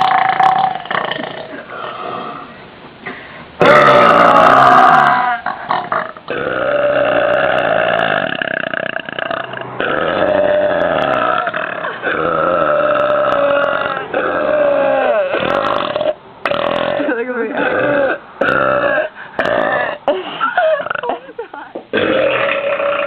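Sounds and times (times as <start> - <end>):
woman burping loudly: 0.0 - 2.5, 3.6 - 21.2, 21.9 - 23.0.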